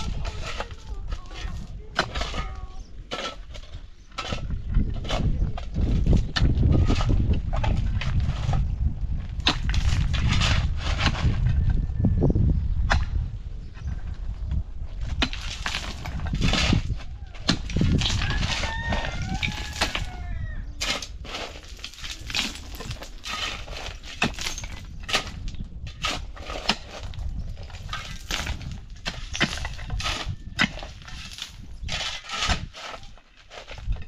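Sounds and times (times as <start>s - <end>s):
hoe and rake scraping stony soil: 0.0s - 11.8s, 13.8s - 34.0s.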